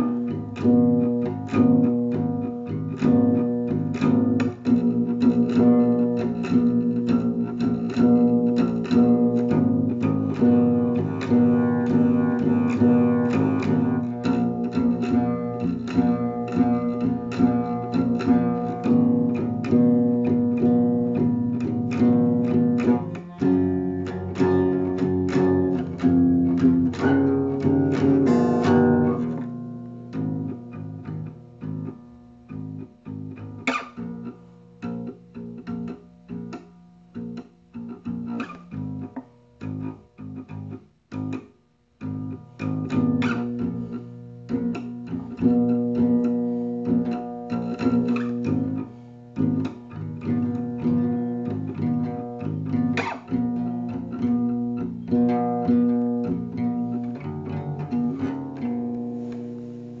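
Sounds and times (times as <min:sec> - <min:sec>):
plucked guitar notes: 0:00.0 - 1:00.0.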